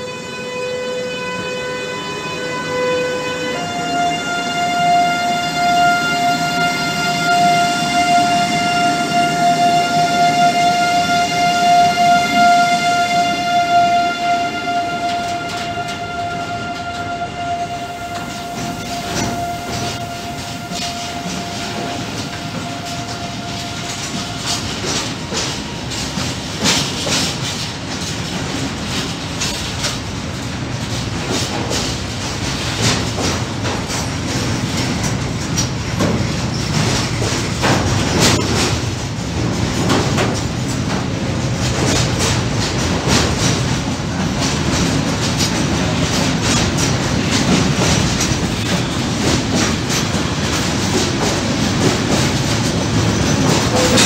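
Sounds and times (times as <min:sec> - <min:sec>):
train rumble: 0:00.0 - 0:54.0
train wheels clicking over rail joints: 0:05.4 - 0:54.0.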